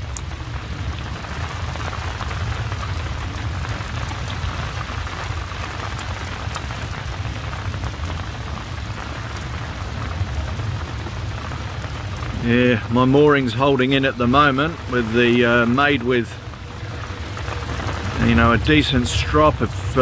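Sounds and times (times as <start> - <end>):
low rumble: 0.0 - 20.0
rain falling: 0.0 - 20.0.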